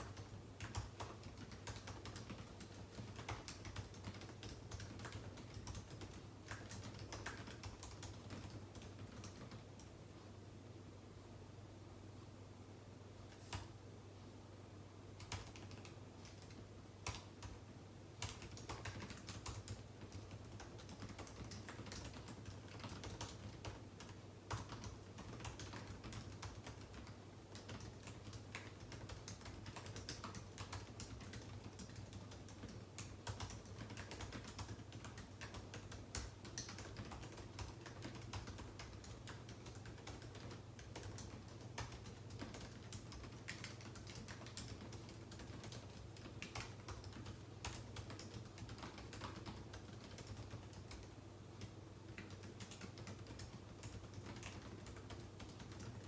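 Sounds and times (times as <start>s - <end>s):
typing on a keyboard: 0.0s - 9.9s, 15.2s - 17.6s, 18.2s - 56.0s
faint low hum: 0.0s - 56.0s.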